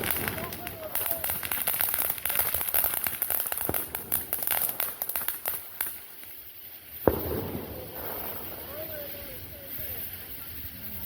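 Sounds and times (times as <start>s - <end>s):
sharp firework bang: 0.0s - 6.0s, 7.0s - 10.0s
fireworks crackling: 0.0s - 11.0s.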